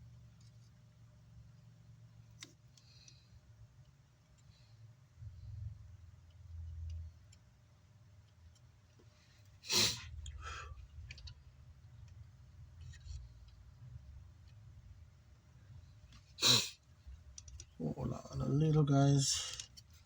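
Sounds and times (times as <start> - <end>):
faint clicks and handling noises: 0.0 - 5.2, 5.8 - 20.0.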